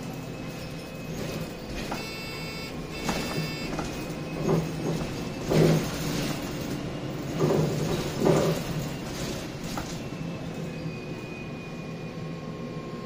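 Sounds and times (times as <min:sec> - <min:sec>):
knocks and rattles from bus body: 0:00.0 - 0:10.7
bus engine low hum: 0:00.0 - 0:13.0.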